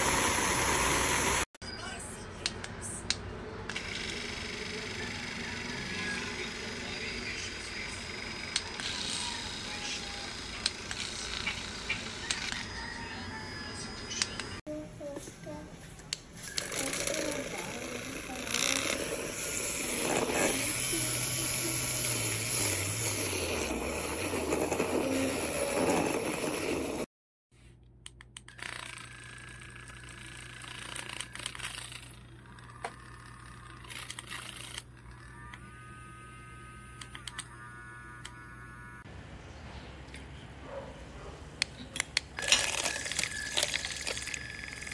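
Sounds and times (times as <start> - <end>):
electric milk frother whirring: 0.0 - 1.5, 3.7 - 14.6, 16.4 - 27.1, 28.5 - 39.1, 42.4 - 44.9.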